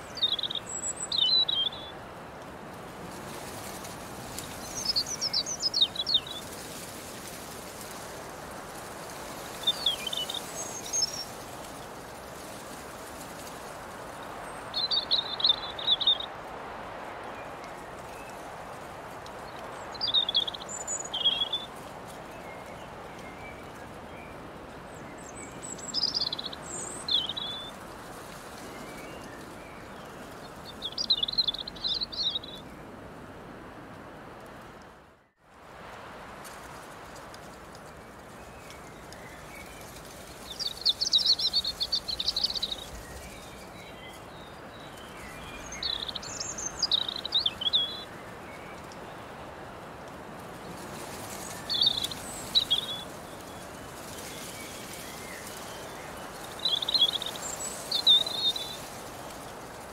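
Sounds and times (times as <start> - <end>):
songbird singing: 0.0 - 2.1, 3.3 - 16.6, 17.2 - 33.0, 37.4 - 59.9
breeze through grass and leaves: 0.0 - 59.9.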